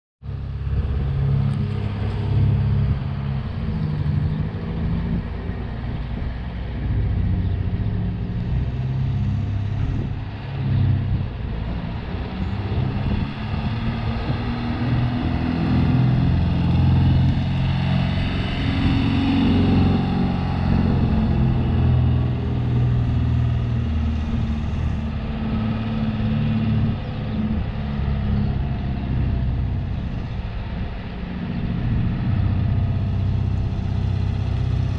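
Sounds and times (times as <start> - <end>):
van engine running: 0.2 - 34.9.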